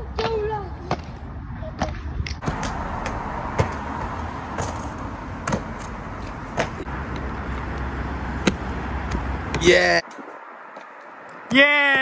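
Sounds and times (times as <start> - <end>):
trainers slapping on paving: 0.0 - 12.0.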